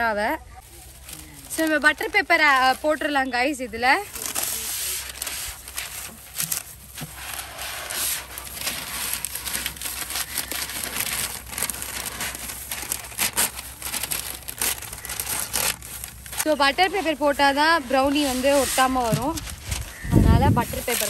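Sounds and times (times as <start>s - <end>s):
baking paper crinkling: 0.6s - 21.0s.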